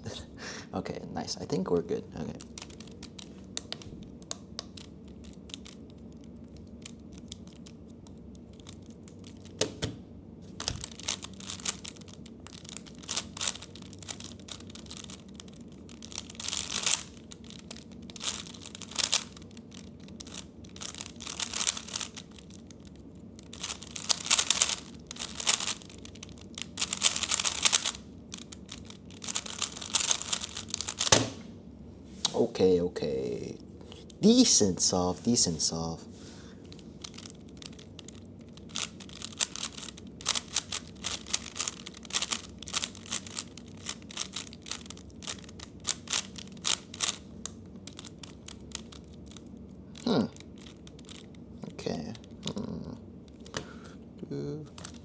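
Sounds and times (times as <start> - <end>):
puzzle cube clicking and rattling: 2.3 - 9.9, 10.6 - 31.4, 36.6 - 53.6.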